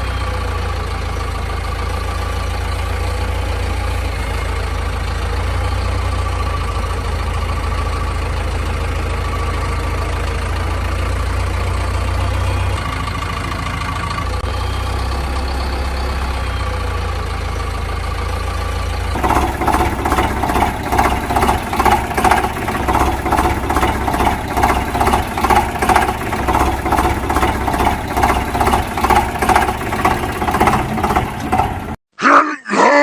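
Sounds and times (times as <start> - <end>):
vehicle engine chugging: 0.0 - 32.0.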